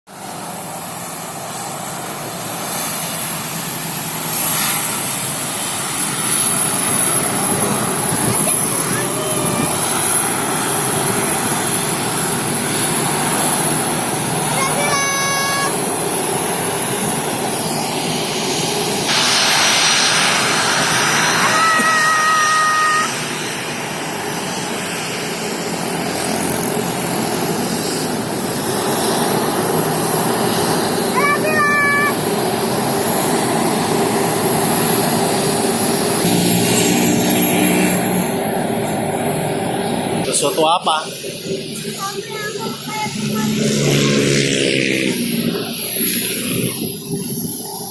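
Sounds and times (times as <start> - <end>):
airliner turbine whine: 0.1 - 47.9
broad rushing noise: 0.1 - 47.9.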